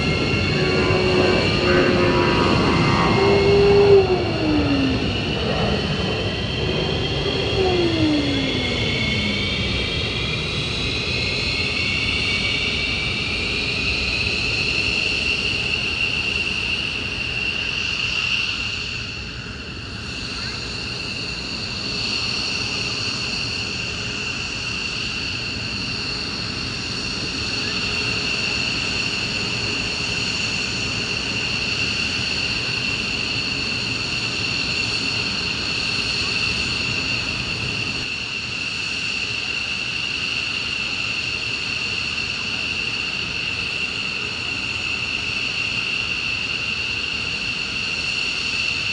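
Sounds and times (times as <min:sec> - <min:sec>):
jet engines idling whine: 0:00.0 - 0:48.9.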